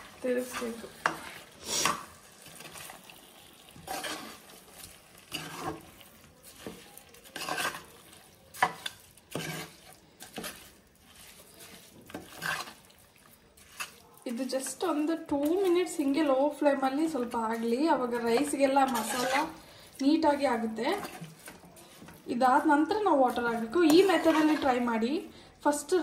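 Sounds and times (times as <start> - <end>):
spoon scraping in pot: 0.0 - 25.1
light sizzle: 0.0 - 26.0.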